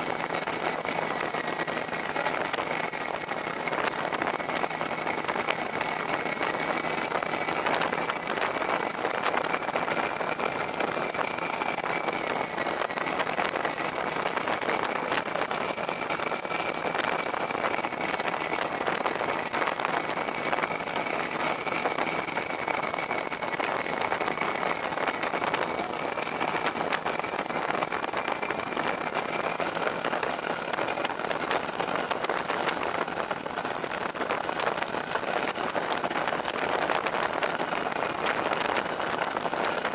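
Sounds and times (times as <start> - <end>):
aircraft engine and propeller drone: 0.0 - 39.9
thin steady whine: 0.0 - 39.9.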